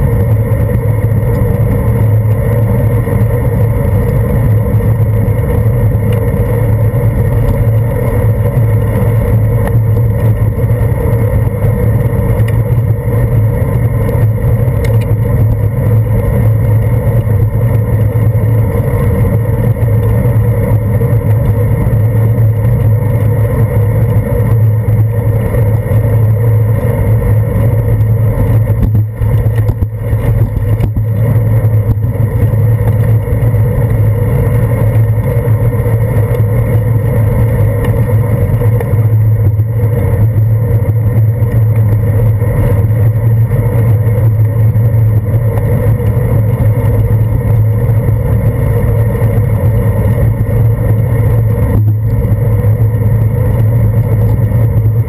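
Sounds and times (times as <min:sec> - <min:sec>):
bicycle road vibration: 0:00.0 - 0:55.0
wind rumble: 0:00.0 - 0:55.0.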